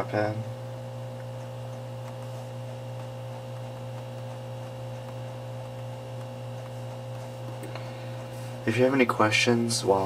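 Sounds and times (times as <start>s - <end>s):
low buzzy electrical hum: 0.0s - 10.0s.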